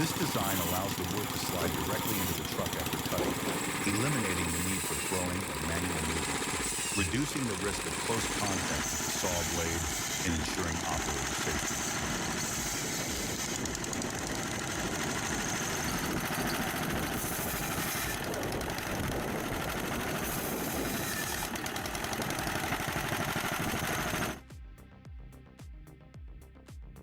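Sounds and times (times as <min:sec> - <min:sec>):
engine-driven saw running: 0:00.0 - 0:24.4.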